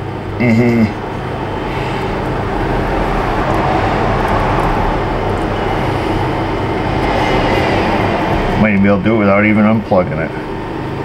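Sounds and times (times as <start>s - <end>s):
fan running: 0.0s - 11.0s
low hum: 0.0s - 11.0s.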